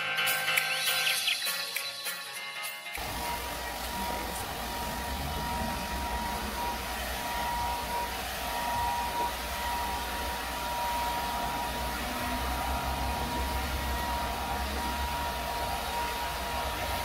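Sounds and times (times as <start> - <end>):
hair dryer running: 3.0 - 17.0.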